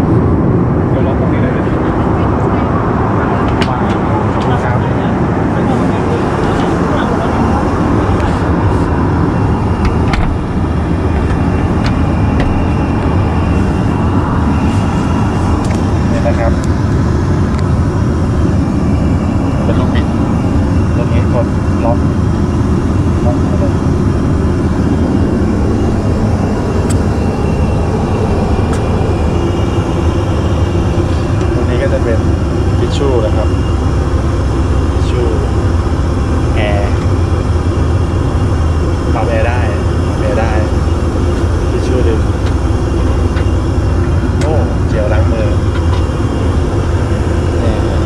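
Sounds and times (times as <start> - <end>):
airliner cabin engine rumble: 0.0 - 48.0.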